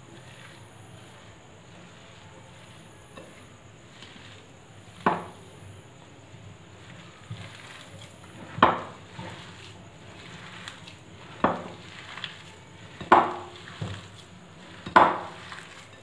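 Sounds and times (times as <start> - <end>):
hand mashing potato in bowl: 0.0 - 16.0.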